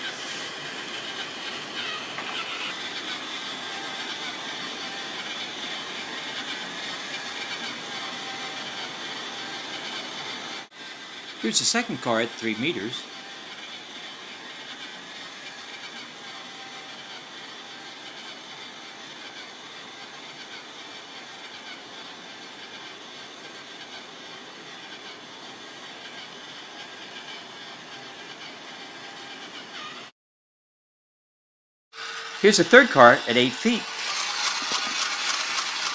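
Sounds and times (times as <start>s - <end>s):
toy electric motor whirring: 0.0s - 30.1s, 32.0s - 35.9s.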